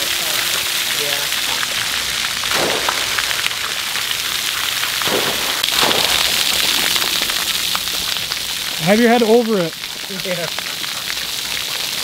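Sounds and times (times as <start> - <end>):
water jets spraying and splashing: 0.0 - 12.0.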